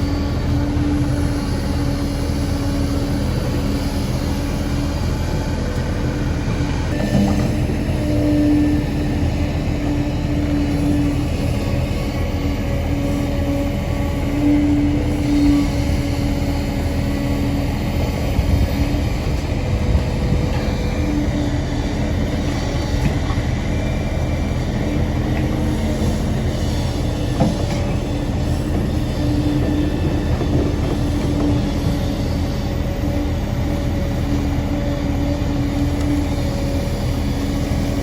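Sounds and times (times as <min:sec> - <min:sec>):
excavator engine and hydraulic drone: 0:00.0 - 0:38.0.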